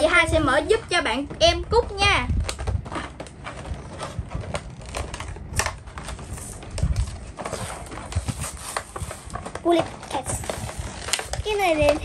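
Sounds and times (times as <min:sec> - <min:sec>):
toy packaging crinkling and tearing: 0:02.4 - 0:12.0.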